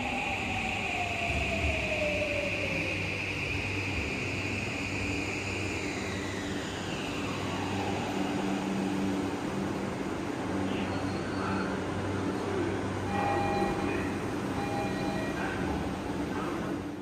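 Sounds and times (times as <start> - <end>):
low hum of standing train: 0.0 - 17.0
subway train motor whine: 0.0 - 17.0.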